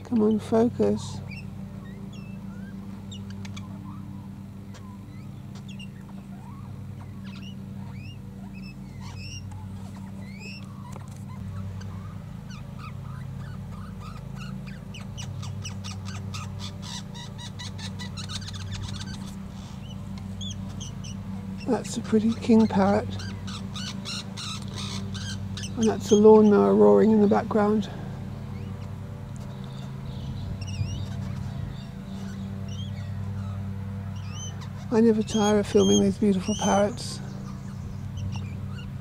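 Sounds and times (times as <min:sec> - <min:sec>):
birds chirping: 0:00.0 - 0:39.0
distant lawnmower engine: 0:00.0 - 0:39.0.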